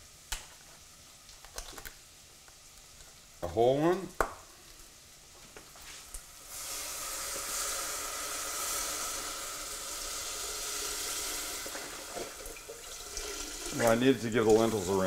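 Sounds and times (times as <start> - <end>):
stock sizzling in hot pot: 0.0 - 15.0.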